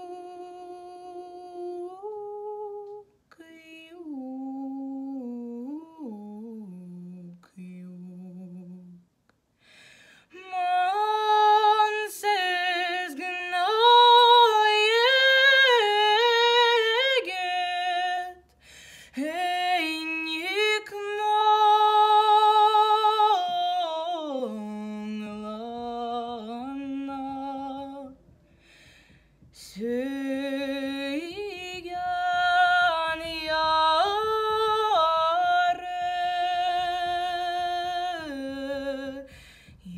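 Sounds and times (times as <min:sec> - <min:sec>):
woman singing a lullaby: 0:00.0 - 0:09.1, 0:10.3 - 0:18.5, 0:19.1 - 0:28.3, 0:29.4 - 0:39.9.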